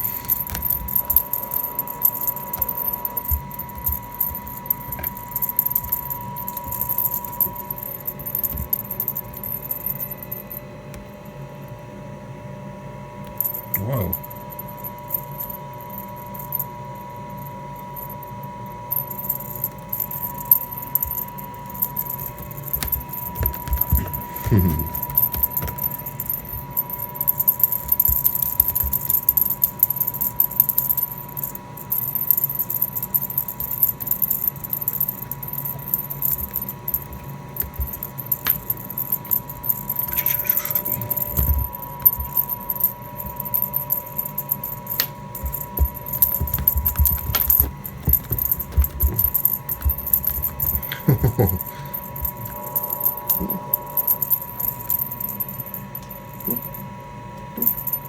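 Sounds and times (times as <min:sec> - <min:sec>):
metallic jingling and rattling: 0:00.0 - 0:10.6, 0:19.0 - 0:56.8
washing machine humming: 0:00.0 - 0:11.3, 0:19.3 - 0:57.9.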